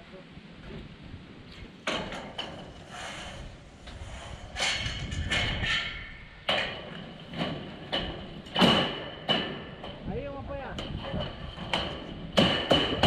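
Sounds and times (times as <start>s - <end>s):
metal sheets clanking: 1.8s - 13.0s.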